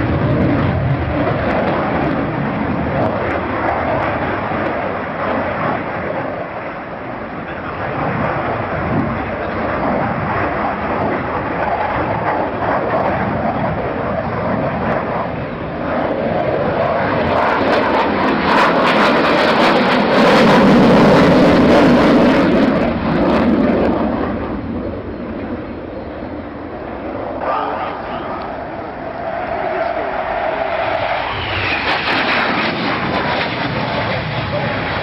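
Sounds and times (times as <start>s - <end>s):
jet aircraft flying past: 0.0s - 35.0s.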